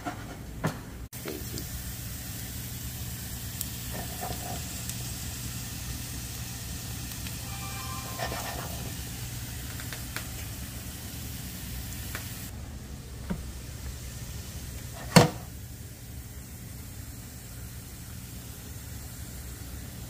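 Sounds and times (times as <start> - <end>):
spices sizzling in hot oil: 1.2 - 12.5, 13.7 - 20.0.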